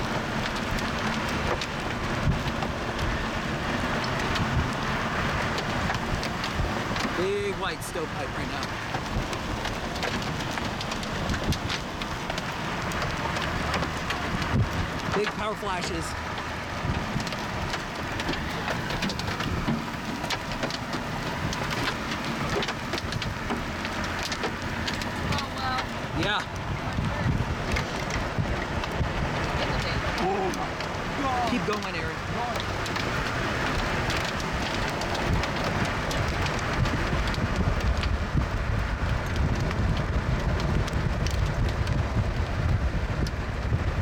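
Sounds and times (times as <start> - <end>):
heavy rain on a vehicle: 0.0 - 44.0.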